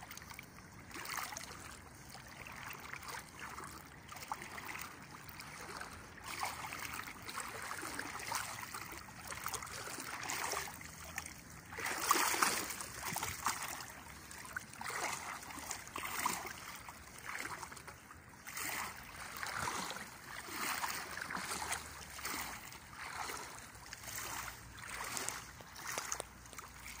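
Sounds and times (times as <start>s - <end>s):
legs wading through water: 0.0s - 27.0s.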